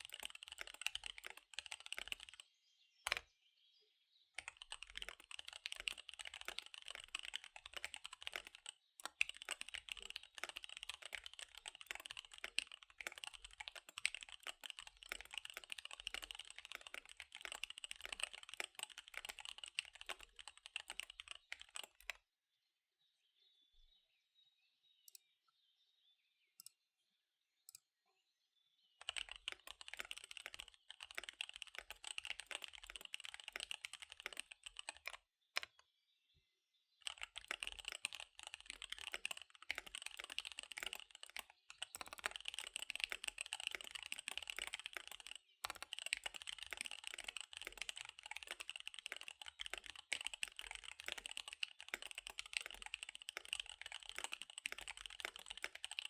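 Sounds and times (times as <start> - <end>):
fast typing on mechanical keyboard: 0.0 - 2.4, 4.4 - 22.2, 29.0 - 35.8, 37.0 - 56.0.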